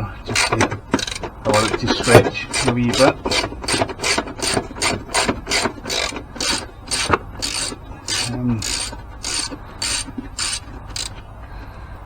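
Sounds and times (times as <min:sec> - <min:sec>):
ratchet wrench clicking: 0:00.3 - 0:11.2.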